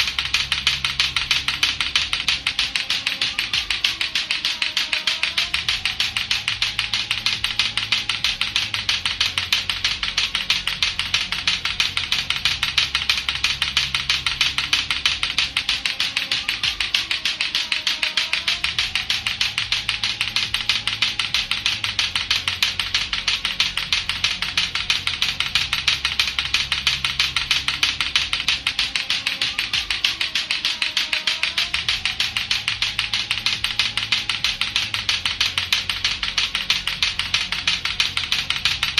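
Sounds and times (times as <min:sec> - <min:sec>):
clacker toy balls clacking: 0:00.0 - 0:38.9
faint backing track with bass: 0:00.0 - 0:38.9.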